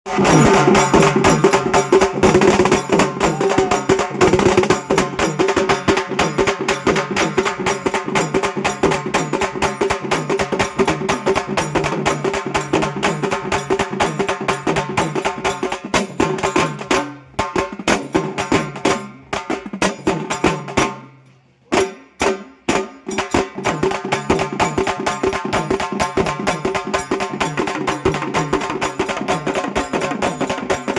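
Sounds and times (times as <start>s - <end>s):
frame drums beaten with sticks: 0.1s - 30.9s.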